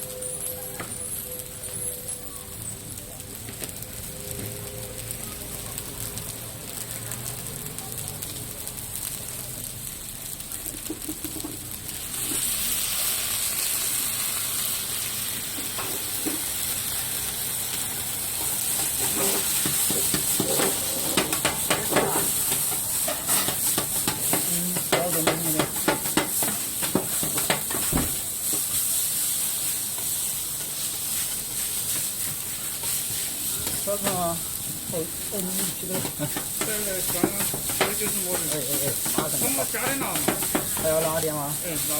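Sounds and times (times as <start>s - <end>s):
rice sizzling on hot plate: 0.0s - 41.9s.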